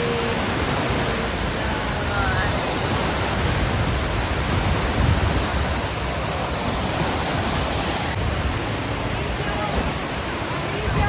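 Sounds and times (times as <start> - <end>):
water falling: 0.0 - 11.0.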